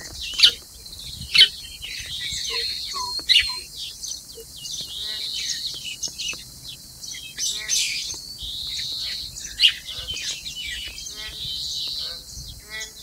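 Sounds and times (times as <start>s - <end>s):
background bird chirping: 0.0s - 13.0s
sharp high bird calls: 0.0s - 13.0s.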